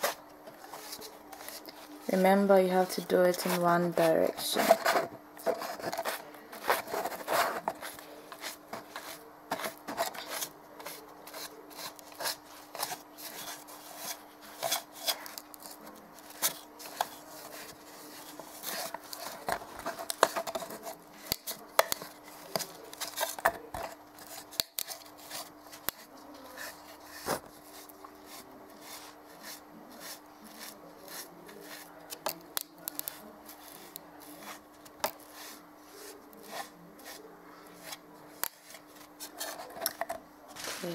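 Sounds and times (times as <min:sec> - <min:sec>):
sponge dabbing paint on plastic: 0:00.0 - 0:40.0.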